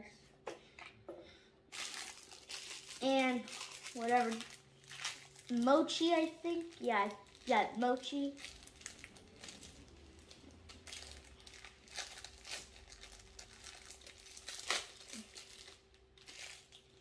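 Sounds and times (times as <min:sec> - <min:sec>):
packaging crinkling: 0:01.7 - 0:17.0.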